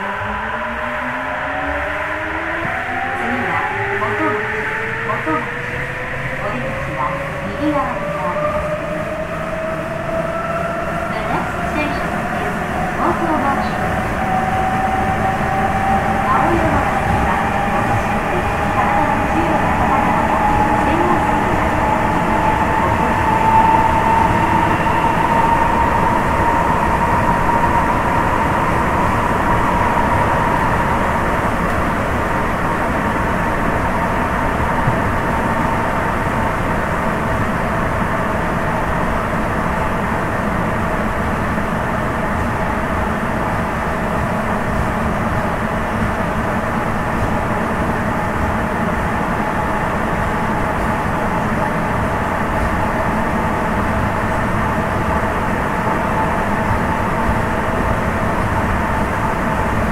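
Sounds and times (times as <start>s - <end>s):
train rumbling through tunnel: 0.0s - 59.9s.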